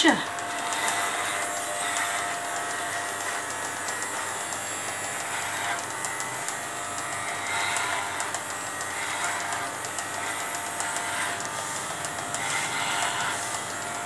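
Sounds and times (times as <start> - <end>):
electric clippers buzzing: 0.0 - 14.0.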